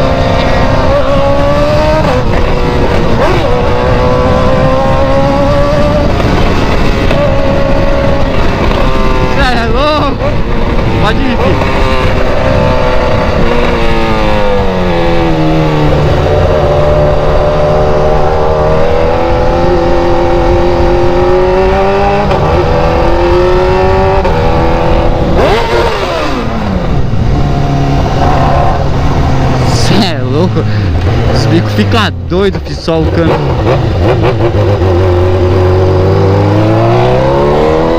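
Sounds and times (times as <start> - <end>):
loud car engine revving: 0.0 - 37.9.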